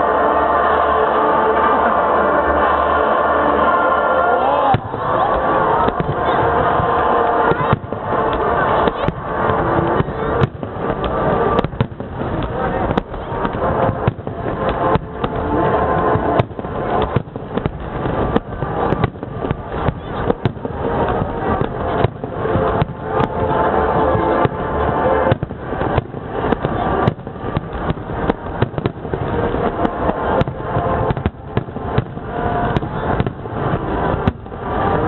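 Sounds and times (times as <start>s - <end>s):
fireworks bursting and crackling: 0.0s - 35.0s
music: 0.0s - 35.0s.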